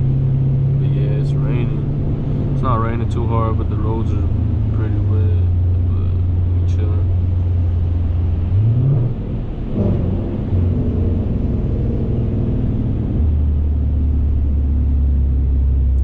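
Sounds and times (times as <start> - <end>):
car engine drone: 0.0 - 16.0.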